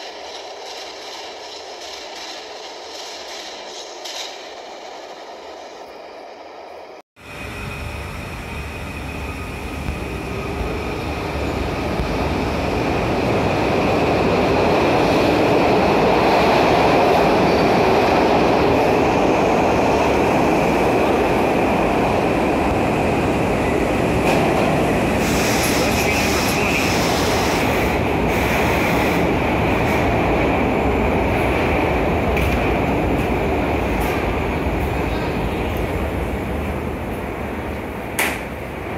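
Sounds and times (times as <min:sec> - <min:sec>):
subway train rumbling: 0:00.0 - 0:38.9.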